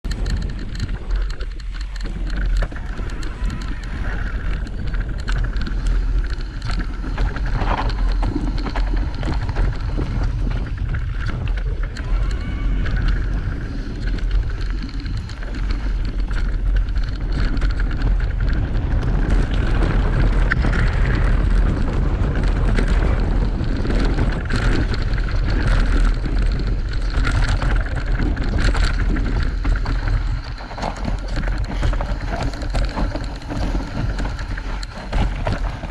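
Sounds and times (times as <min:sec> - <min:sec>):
bike knocks and rattles: 0:00.0 - 0:35.9
tyres on dirt trail: 0:00.0 - 0:35.9
wind rumbling on microphone: 0:00.0 - 0:35.9.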